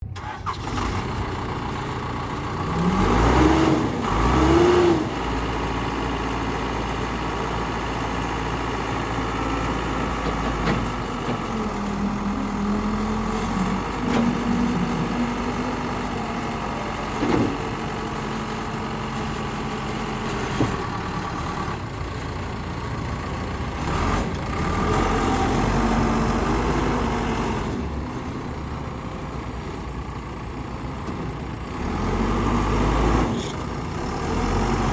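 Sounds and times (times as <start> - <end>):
backhoe diesel engine revving: 0.0 - 34.9.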